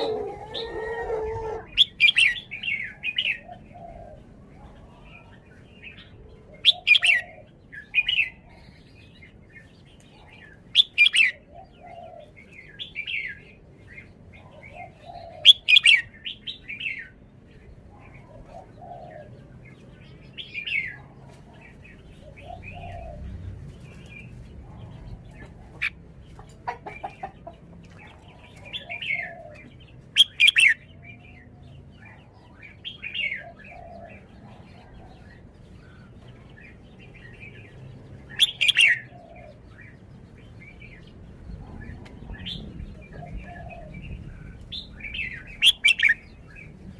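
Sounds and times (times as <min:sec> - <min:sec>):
bird singing warbled phrases: 0:00.0 - 0:46.9.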